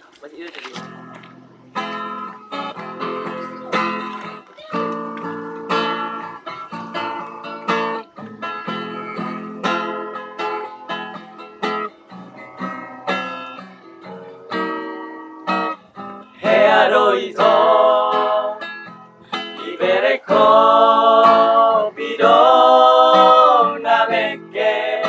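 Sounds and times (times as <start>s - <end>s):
acoustic guitar chords: 0.8s - 25.0s.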